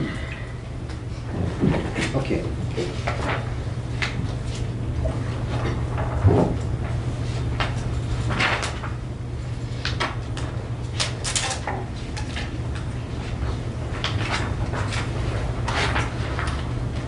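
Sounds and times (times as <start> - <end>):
low electrical hum: 0.0 - 17.0
paper rustling and shuffling: 2.8 - 17.0.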